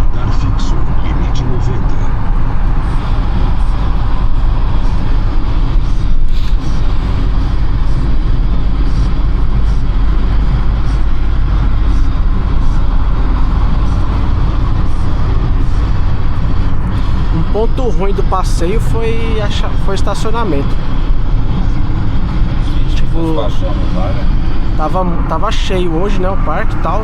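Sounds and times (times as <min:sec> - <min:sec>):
car road noise from inside: 0:00.0 - 0:27.0.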